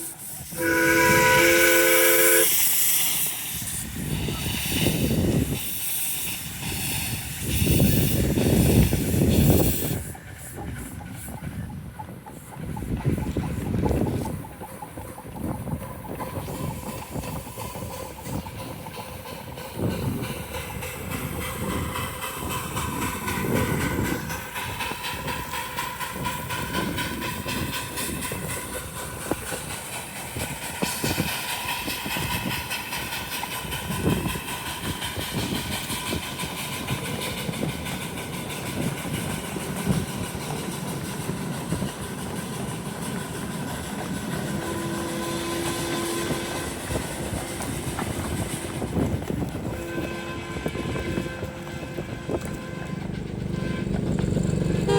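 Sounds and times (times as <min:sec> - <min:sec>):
miniature train wheels on rails: 0:00.0 - 0:54.9.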